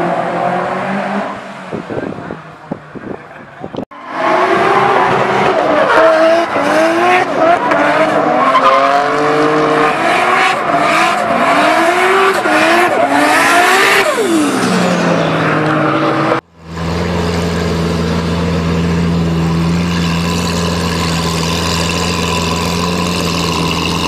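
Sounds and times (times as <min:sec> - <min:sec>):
car engine revving: 0:04.0 - 0:24.0.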